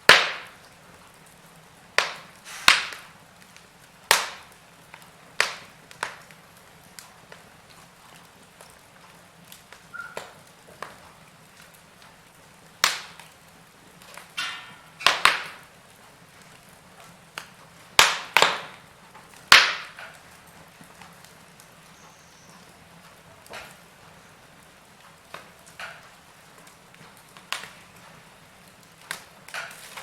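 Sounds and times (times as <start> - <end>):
faint steady background noise: 0.0 - 30.0
wood fire popping and snapping: 0.0 - 30.0.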